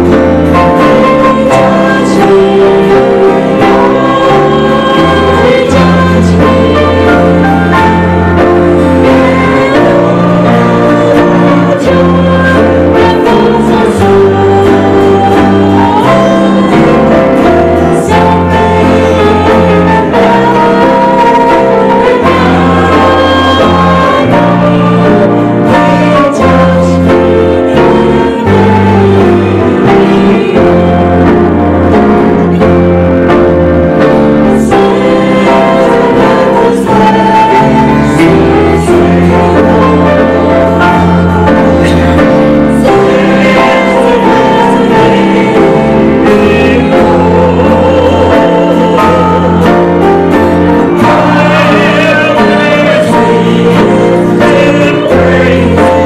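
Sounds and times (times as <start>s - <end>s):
voices singing along: 0.0s - 32.5s, 33.2s - 56.0s
steady bass line: 0.0s - 56.0s
worship band playing: 0.0s - 56.0s.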